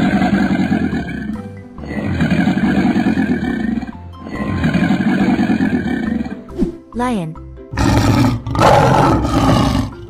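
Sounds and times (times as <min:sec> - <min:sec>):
animal growling roar: 0:00.0 - 0:06.4, 0:07.8 - 0:10.0
background music: 0:00.0 - 0:10.0.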